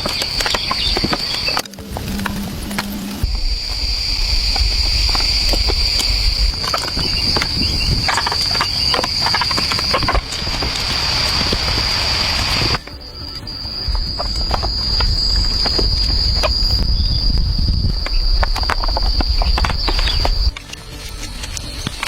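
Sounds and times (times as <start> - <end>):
high-pitched insect chorus: 0.0 - 22.0
low rumble: 0.9 - 20.6.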